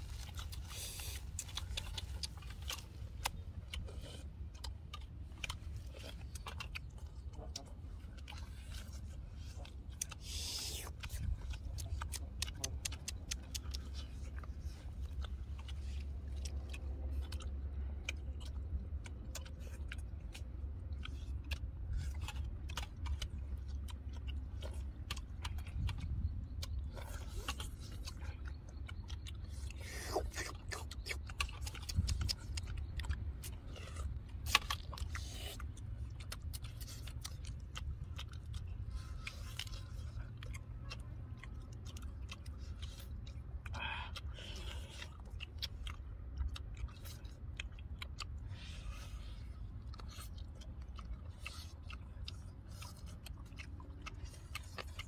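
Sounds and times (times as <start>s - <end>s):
steady low rumble: 0.0s - 55.0s
wet chewing and lip-smacking: 0.0s - 55.0s.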